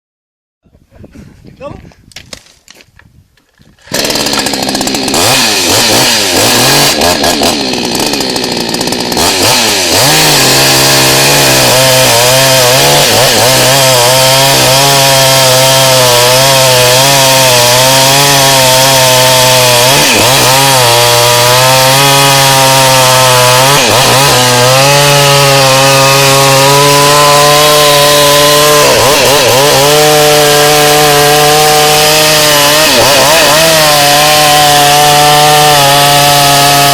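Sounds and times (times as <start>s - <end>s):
chainsaw running at high revs: 3.8s - 36.9s.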